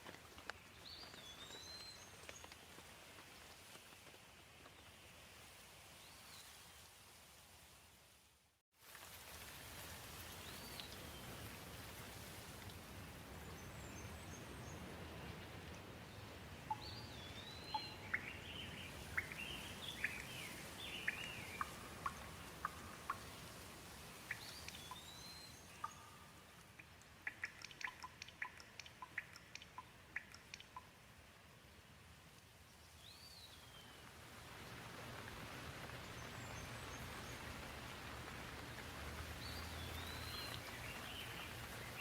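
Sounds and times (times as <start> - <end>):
gentle rain hiss: 0.0 - 42.0.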